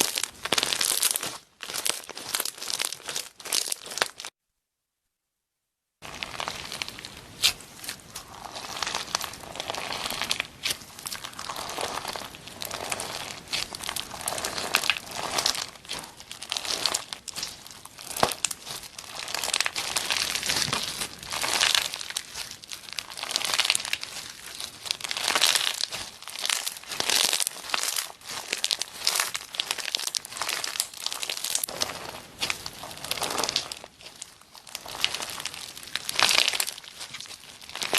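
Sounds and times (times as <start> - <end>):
slime crackling and popping: 0.0 - 4.4, 6.0 - 37.9.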